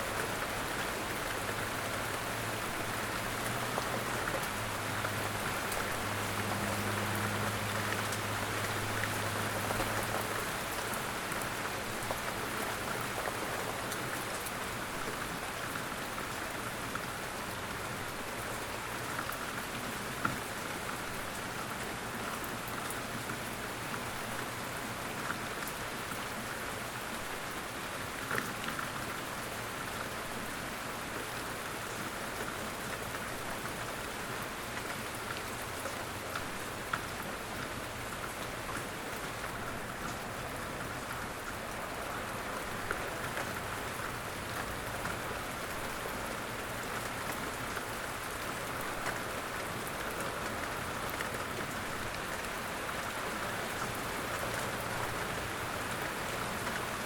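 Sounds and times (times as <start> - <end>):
light rain: 0.0 - 57.0.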